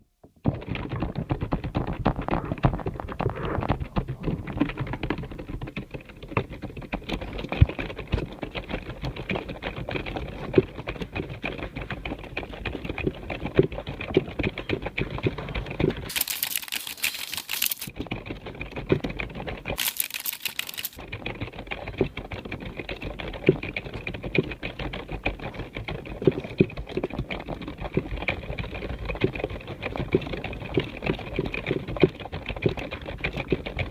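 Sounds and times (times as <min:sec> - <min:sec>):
fast typing on keyboard: 0:00.5 - 0:33.9.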